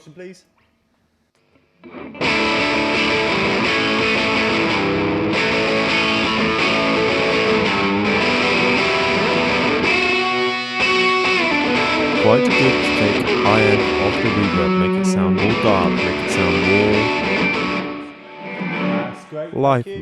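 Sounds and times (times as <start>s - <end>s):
distorted electric guitar: 1.8s - 19.2s.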